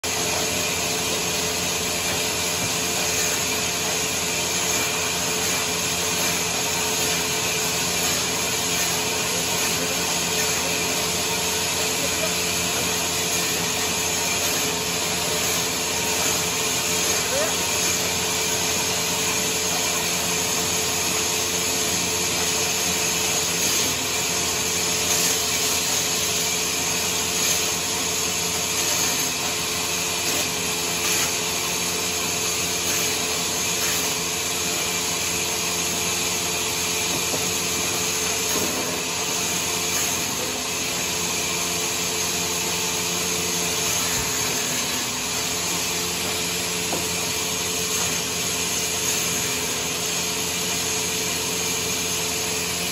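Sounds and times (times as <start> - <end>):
sawmill saw cutting wood: 0.0 - 52.9.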